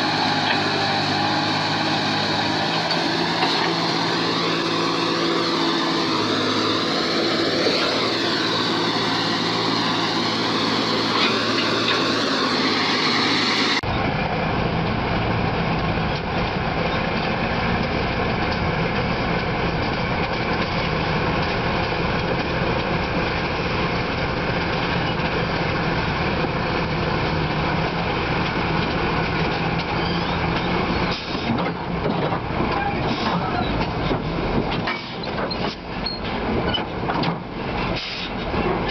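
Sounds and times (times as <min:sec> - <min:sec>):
heavy machinery engines running: 0:00.0 - 0:38.9.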